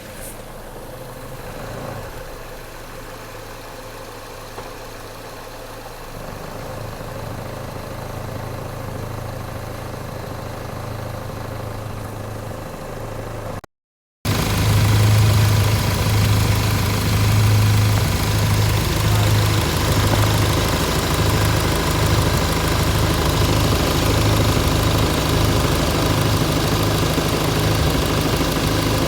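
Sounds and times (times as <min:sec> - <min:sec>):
car engine idling: 0:00.0 - 0:13.6, 0:14.3 - 0:29.0.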